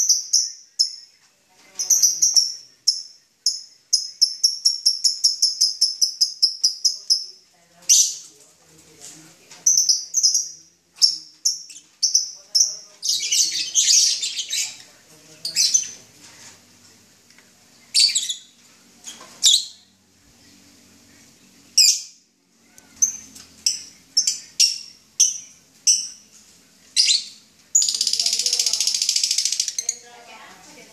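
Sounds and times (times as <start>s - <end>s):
lovebirds chirping and squawking: 0.0s - 17.0s, 17.6s - 30.9s.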